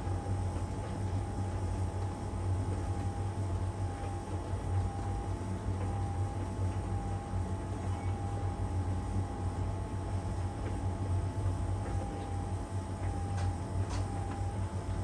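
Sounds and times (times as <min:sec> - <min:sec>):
dryer whine: 0:00.0 - 0:15.0
tumble dryer humming: 0:00.0 - 0:15.0.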